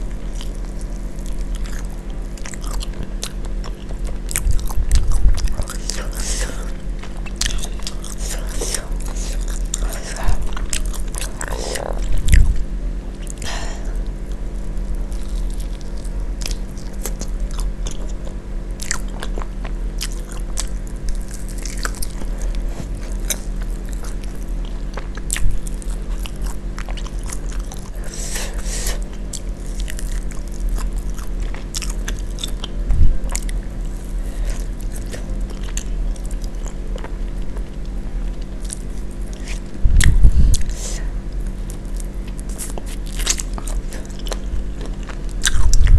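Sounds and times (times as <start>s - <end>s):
person chewing crunchy food: 0.0s - 45.9s
steady low hum: 0.0s - 45.9s.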